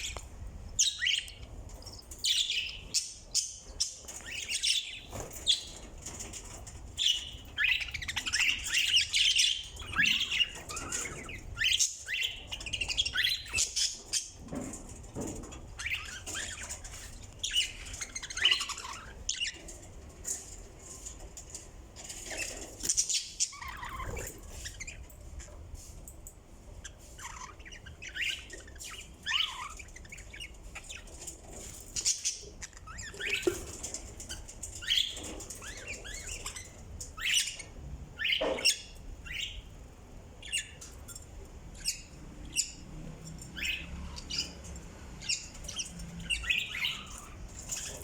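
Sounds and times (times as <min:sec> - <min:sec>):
parrots chirping and squawking: 0:00.8 - 0:26.0, 0:26.8 - 0:48.0.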